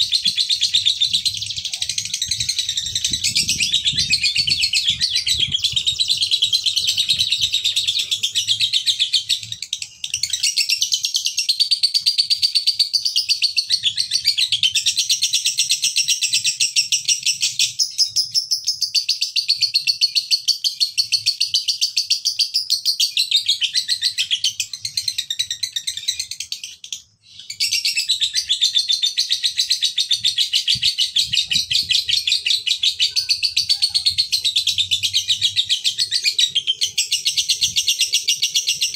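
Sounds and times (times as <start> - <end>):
lovebird chattering trill: 0.0 - 10.8, 17.4 - 38.9.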